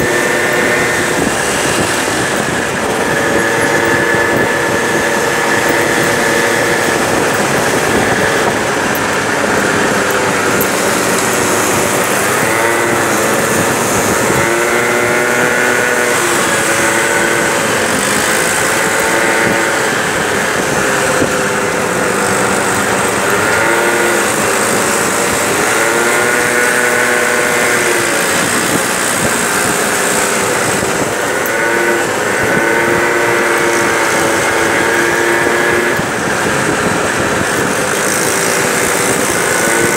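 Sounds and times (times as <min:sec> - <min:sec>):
scooter engine running: 0:00.0 - 0:39.9
steady rushing noise: 0:00.0 - 0:39.9.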